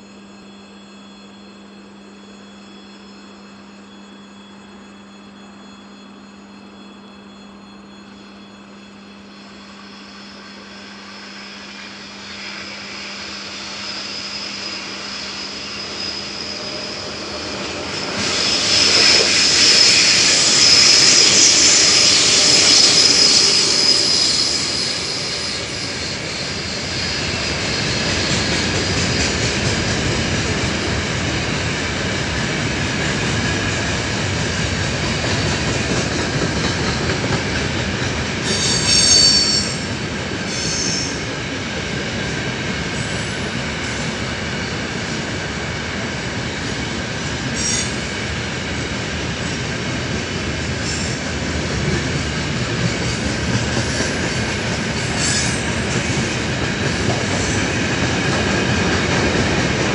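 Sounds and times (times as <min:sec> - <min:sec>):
electric locomotive passing: 0:00.0 - 0:59.9
locomotive whine and hiss: 0:00.0 - 0:59.9.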